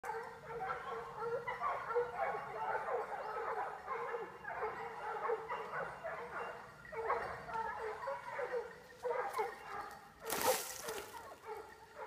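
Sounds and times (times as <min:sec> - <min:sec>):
hounds yelping and baying: 0:00.0 - 0:12.0.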